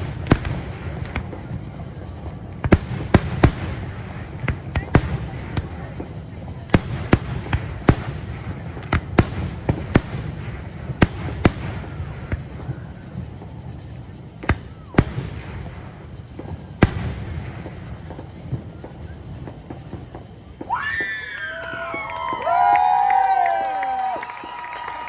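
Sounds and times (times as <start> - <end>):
fireworks booming: 0.0 - 24.2.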